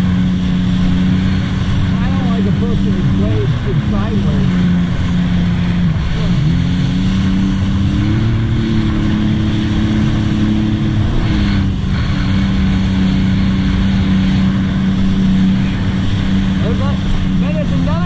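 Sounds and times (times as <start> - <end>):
personal watercraft engine: 0.0 - 18.0.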